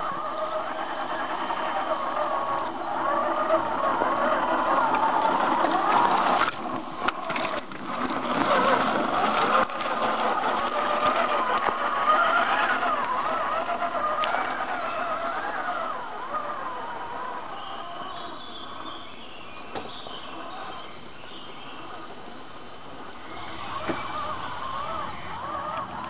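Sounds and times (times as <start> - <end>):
toy truck electric motor whining: 0.0 - 19.0, 23.2 - 26.0.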